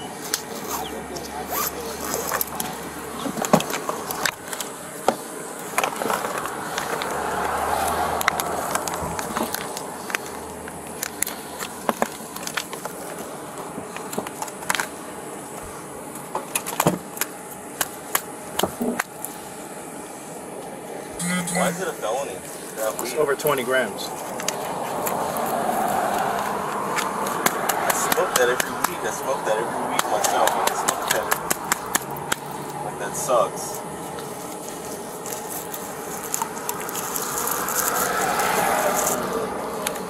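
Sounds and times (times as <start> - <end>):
passing road traffic: 0.0 - 16.5, 19.4 - 40.0.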